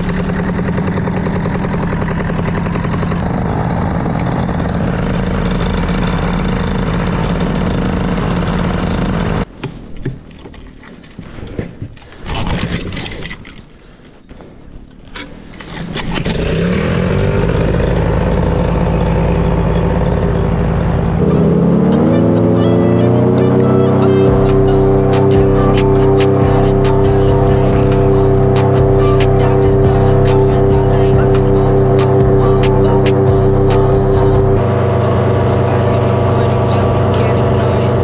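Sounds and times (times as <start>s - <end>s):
paramotor engine running: 0.0s - 9.5s, 15.5s - 38.0s.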